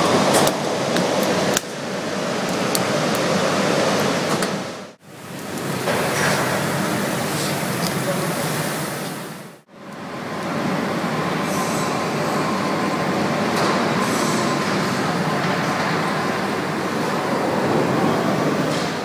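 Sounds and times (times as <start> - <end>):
factory machinery running: 0.0 - 19.0.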